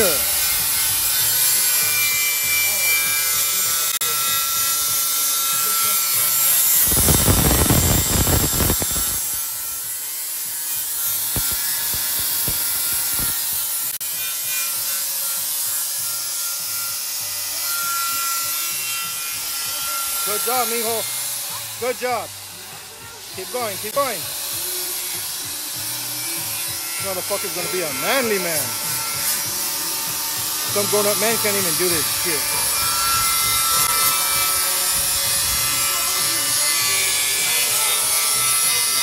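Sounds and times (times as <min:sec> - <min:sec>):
angle grinder grinding steel: 0:00.0 - 0:39.0.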